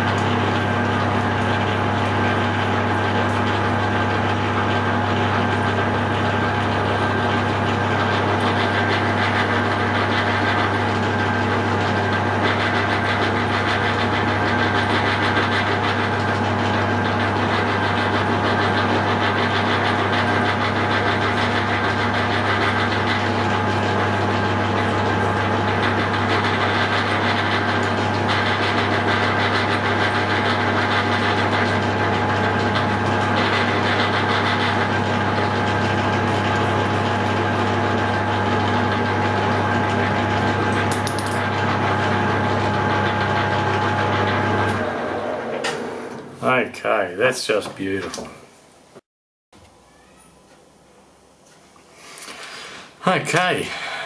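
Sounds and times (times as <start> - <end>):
metal lathe humming: 0.0 - 46.6.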